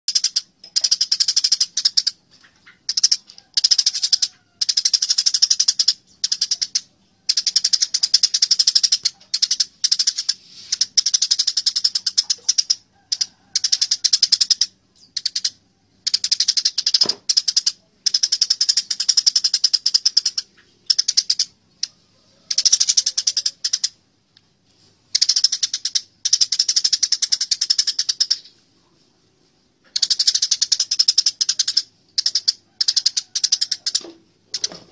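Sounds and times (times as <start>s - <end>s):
sparrows chattering: 0.1s - 24.0s, 24.8s - 29.1s, 29.8s - 34.8s.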